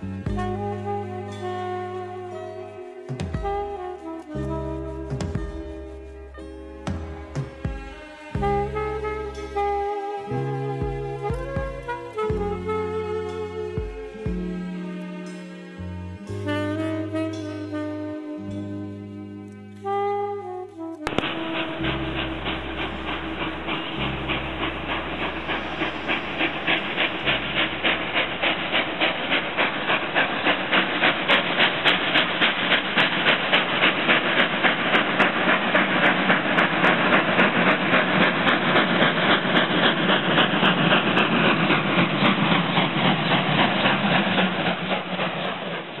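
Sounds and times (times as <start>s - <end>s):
steam hissing: 0.0s - 20.0s, 20.9s - 46.0s
steam locomotive chuffing: 0.0s - 46.0s.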